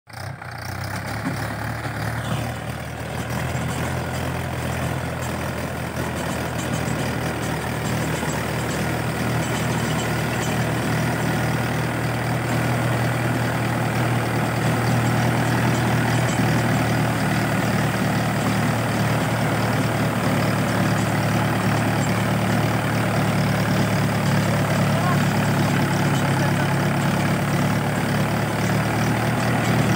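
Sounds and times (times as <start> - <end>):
tractor diesel engine running: 0.1 - 29.9.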